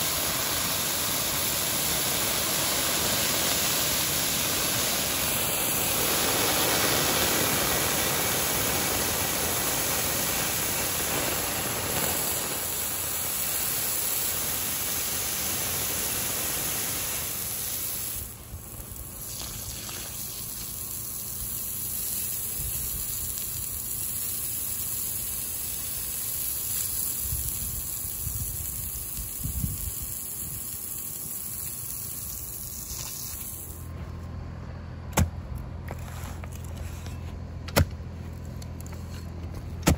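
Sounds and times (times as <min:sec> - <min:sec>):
hose spraying water and steam hiss: 0:00.0 - 0:33.9.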